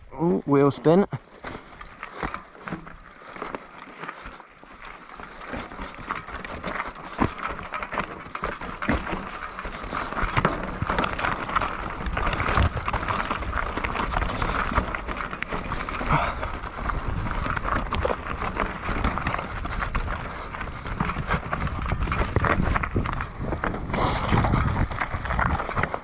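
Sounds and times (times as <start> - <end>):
mountain bike clattering over rocks: 0.1 - 26.0
wind rumbling on microphone: 5.1 - 26.0.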